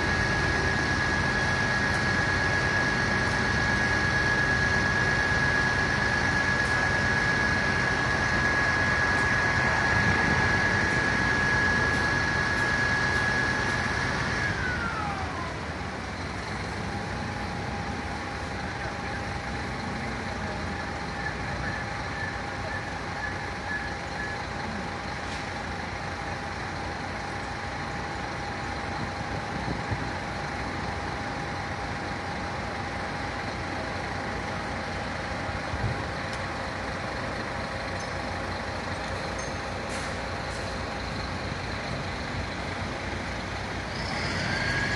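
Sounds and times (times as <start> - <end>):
fire engine siren wailing: 0.0 - 44.9
street and vehicle noise: 0.0 - 44.9.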